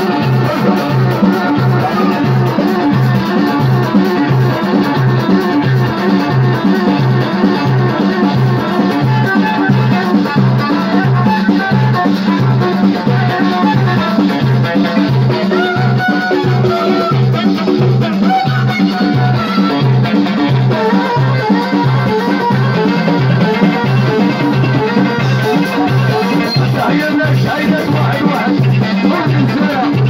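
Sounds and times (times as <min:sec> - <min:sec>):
electronic keyboard melody: 0:00.0 - 0:29.8.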